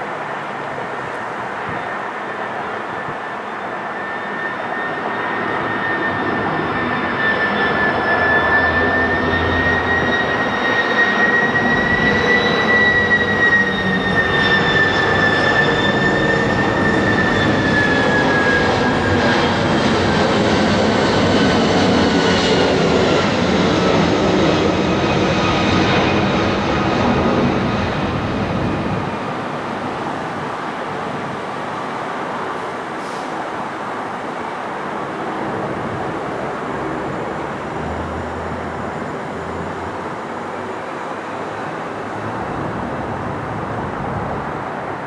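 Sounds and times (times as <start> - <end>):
jet airliner passing overhead: 0.0 - 45.0.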